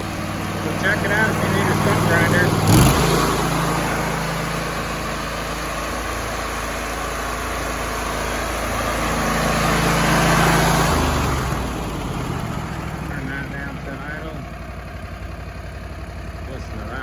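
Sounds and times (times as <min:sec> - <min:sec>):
stump grinder engine running: 0:00.0 - 0:17.0.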